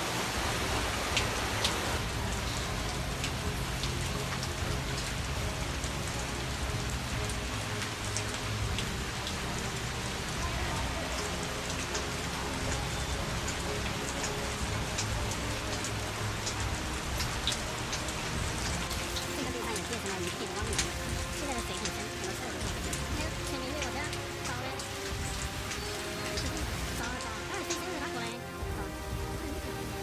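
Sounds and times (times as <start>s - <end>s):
heavy rain falling: 0.0s - 30.0s
raindrops ticking on surface: 0.0s - 30.0s.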